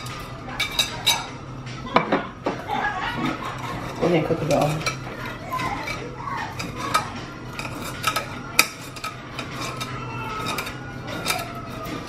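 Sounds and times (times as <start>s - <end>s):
utensils and dishes clinking: 0.0s - 12.0s.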